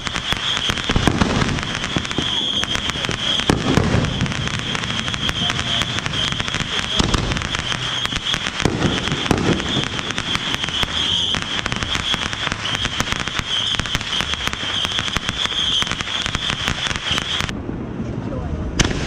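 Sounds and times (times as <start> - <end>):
fireworks crackling and popping: 0.0 - 17.6, 18.8 - 19.0.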